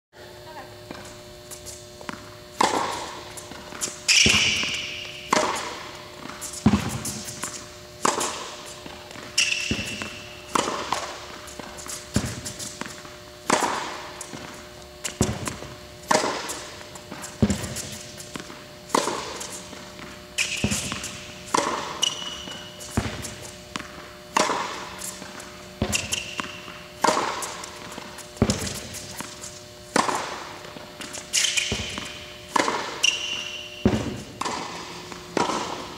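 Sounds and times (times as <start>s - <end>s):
sneaker squeaks: 0.9s - 13.0s, 18.9s - 35.9s
tennis ball bouncing on court: 0.9s - 35.9s
tennis ball hit by racket: 2.1s - 35.9s.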